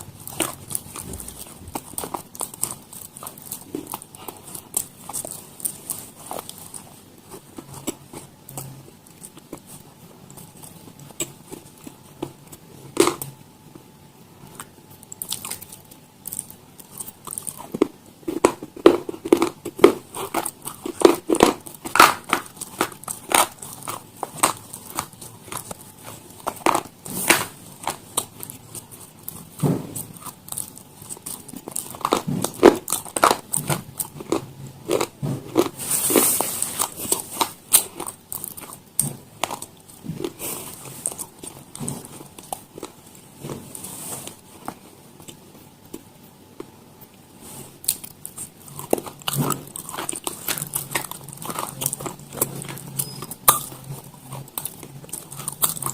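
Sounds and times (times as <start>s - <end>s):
crunchy food being chewed: 0.0s - 55.9s.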